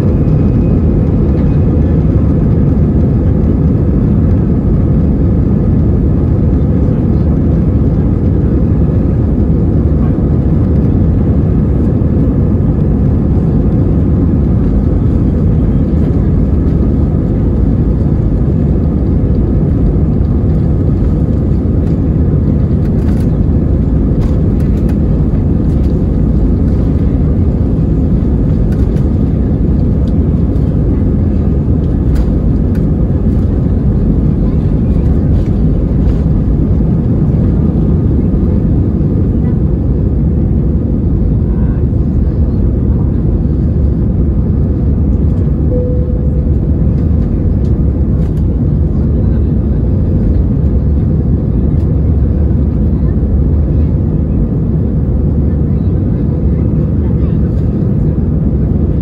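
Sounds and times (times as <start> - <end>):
aircraft engines low rumble: 0.0 - 59.0.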